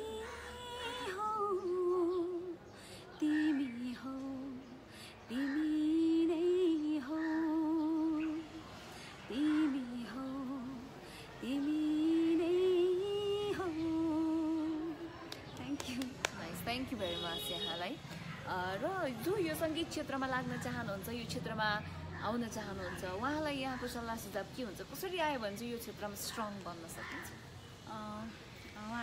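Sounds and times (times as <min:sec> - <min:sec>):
woman singing unaccompanied: 0:00.0 - 0:26.6, 0:27.8 - 0:29.0.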